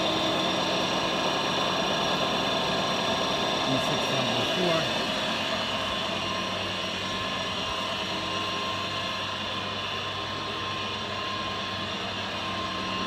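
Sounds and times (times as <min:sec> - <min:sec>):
machinery hum with high whine: 0:00.0 - 0:13.0.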